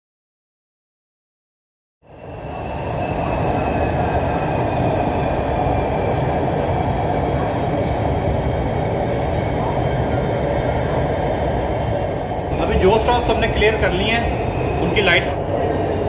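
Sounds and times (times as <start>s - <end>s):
metro train running: 2.0s - 16.0s.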